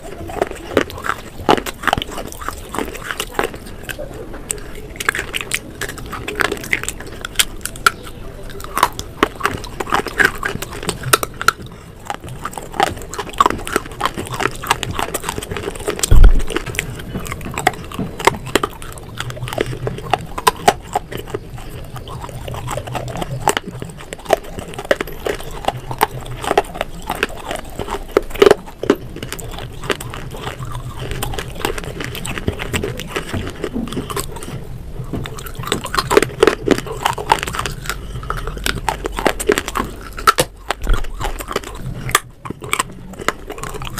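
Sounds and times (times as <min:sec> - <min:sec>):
chewing and wet mouth sounds: 0:00.0 - 0:43.9
crisp crunching bites: 0:00.0 - 0:43.9.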